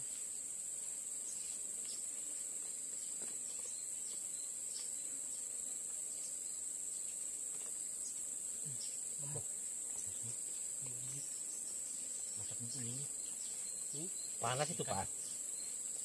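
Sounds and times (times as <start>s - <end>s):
forest insects droning: 0.0s - 16.0s.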